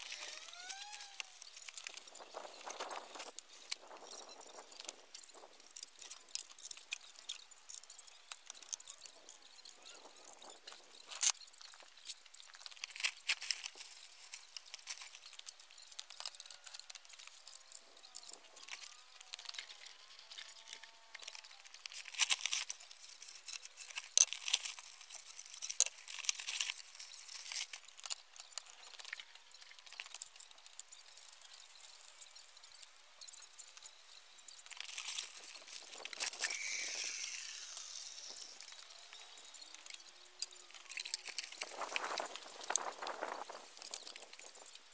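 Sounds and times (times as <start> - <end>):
metal parts clicking and clinking: 0.0 - 44.9.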